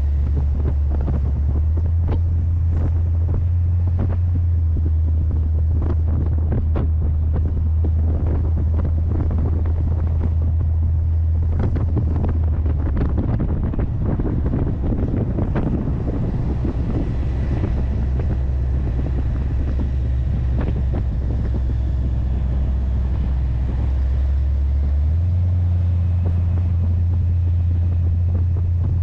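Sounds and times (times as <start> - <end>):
car engine droning: 0.0 - 29.0
wind buffeting microphone: 0.0 - 29.0.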